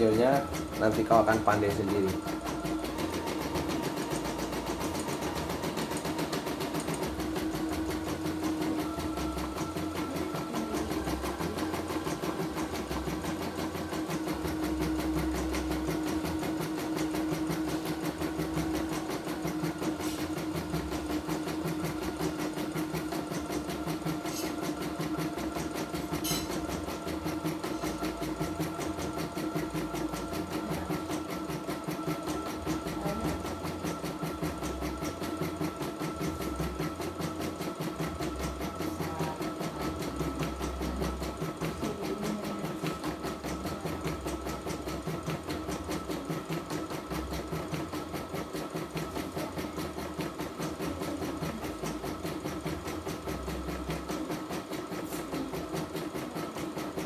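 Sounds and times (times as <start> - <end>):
embroidery machine needle running: 0.0 - 57.0.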